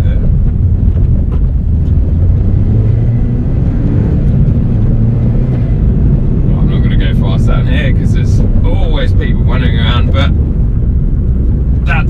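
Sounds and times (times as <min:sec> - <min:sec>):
car engine drone inside cabin: 0:00.0 - 0:12.0
road noise: 0:00.0 - 0:12.0.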